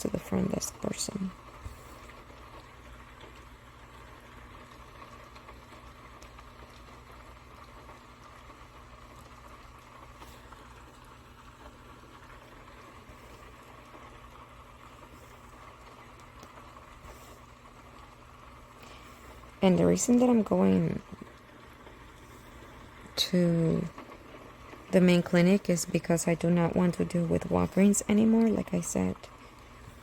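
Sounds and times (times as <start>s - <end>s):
low electrical hum: 0.0s - 30.0s
soft hiss: 0.0s - 30.0s.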